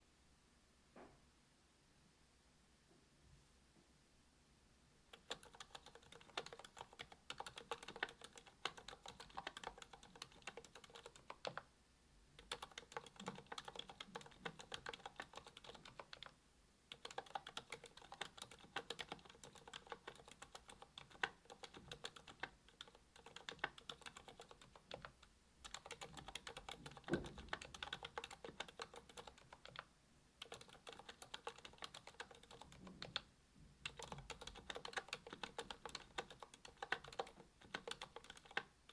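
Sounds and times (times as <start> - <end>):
soft mechanical keyboard typing: 5.1 - 11.7, 12.4 - 38.9.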